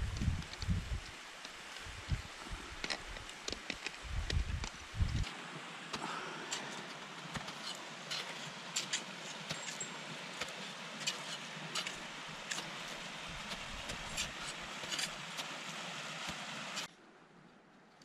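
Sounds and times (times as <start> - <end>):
background hiss: 0.0 - 17.3.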